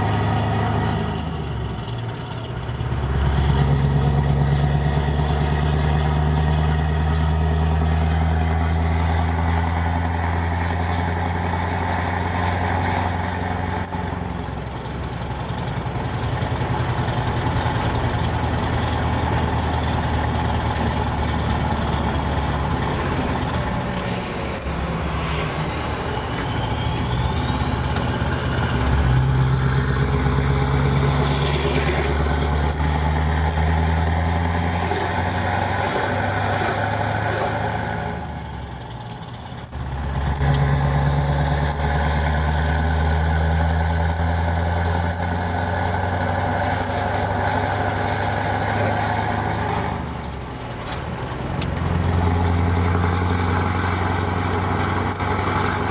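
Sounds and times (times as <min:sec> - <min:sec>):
diesel truck engine drone: 0:00.0 - 0:55.9.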